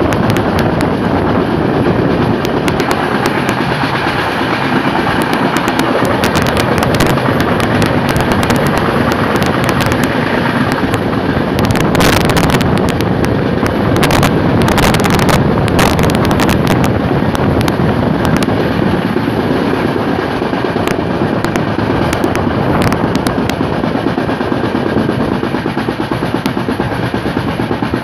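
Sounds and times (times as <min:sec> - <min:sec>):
train wheel-and-rail rumble: 0:00.0 - 0:28.0
wheels clattering over track: 0:00.0 - 0:28.0
wind: 0:00.0 - 0:28.0.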